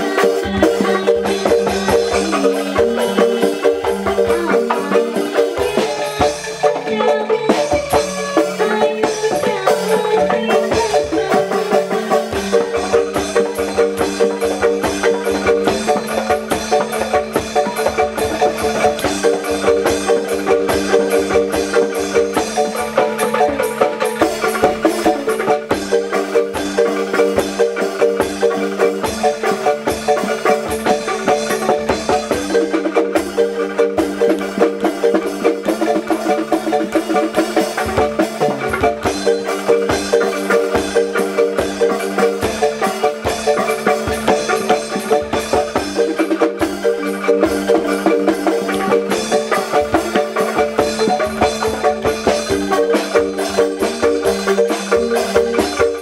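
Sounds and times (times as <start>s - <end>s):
wooden mallet percussion music: 0.0s - 56.0s.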